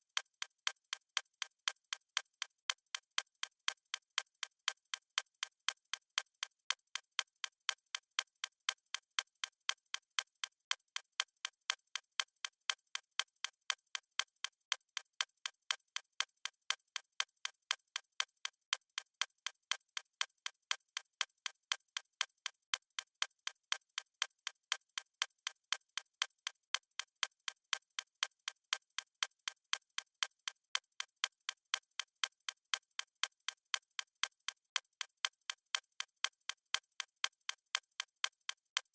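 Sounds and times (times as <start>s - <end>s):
fast stopwatch ticking: 0.0s - 38.9s.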